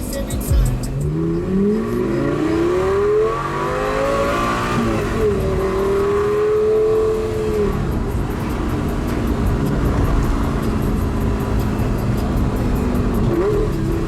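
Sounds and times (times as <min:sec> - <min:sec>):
supercar engine accelerating hard: 0:00.3 - 0:14.0.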